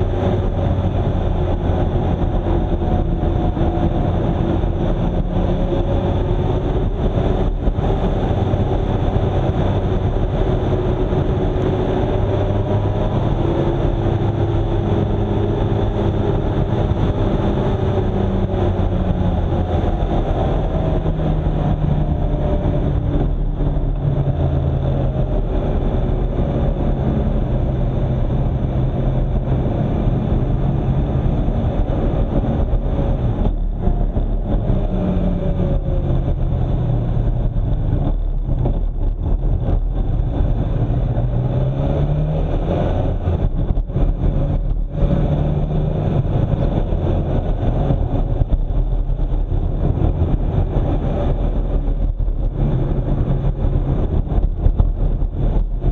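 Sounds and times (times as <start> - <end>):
car engine revving: 0.0 - 55.9
road and wind noise: 0.0 - 55.9.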